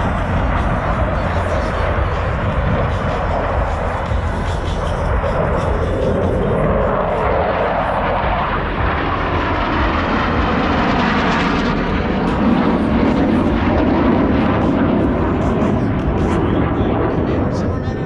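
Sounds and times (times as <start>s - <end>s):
jet roaring overhead: 0.0s - 18.0s.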